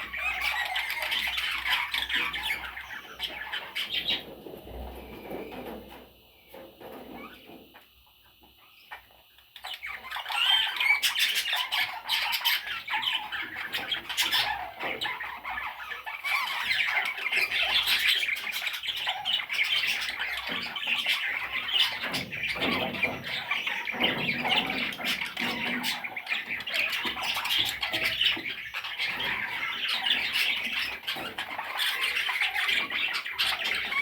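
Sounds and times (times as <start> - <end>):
parrots chattering and squawking: 0.0 - 34.0.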